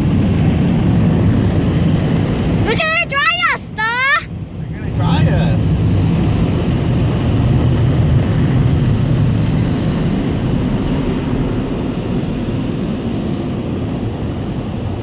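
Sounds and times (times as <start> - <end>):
car wash air blowers rushing: 0.0 - 15.0.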